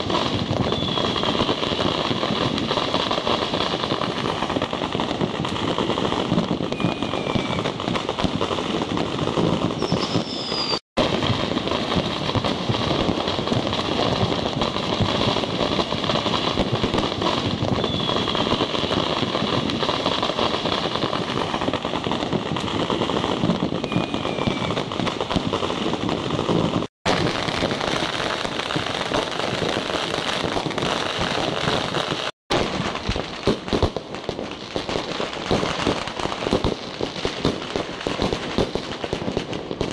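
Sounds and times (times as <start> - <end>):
firework whistles: 0.0 - 39.9
fireworks popping and crackling: 0.0 - 39.9.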